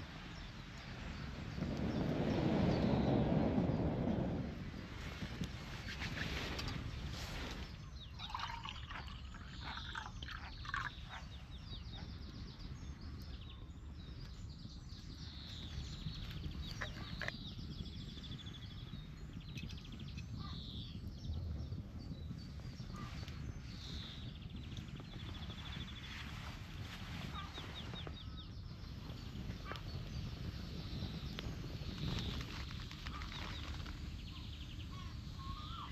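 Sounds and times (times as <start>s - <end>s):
low rumble of wind: 0.0s - 35.9s
birds calling and trilling: 5.6s - 35.9s.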